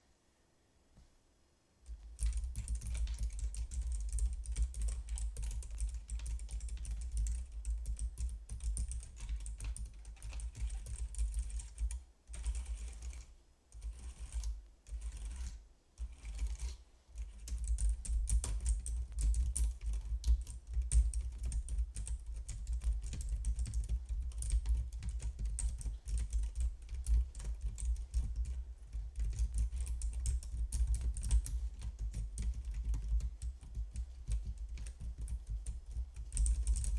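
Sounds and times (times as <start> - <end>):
keyboard typing: 1.9 - 36.9.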